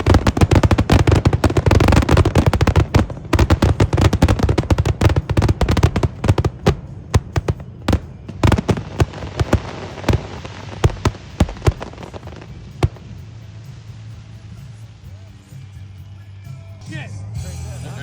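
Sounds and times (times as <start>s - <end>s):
fireworks bursting: 0.0s - 15.8s.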